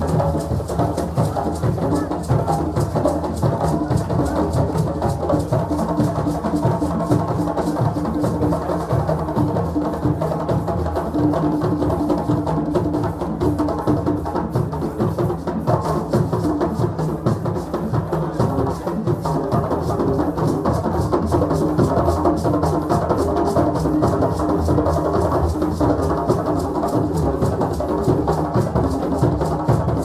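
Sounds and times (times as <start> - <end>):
hand drums playing fast rhythm: 0.0 - 30.0.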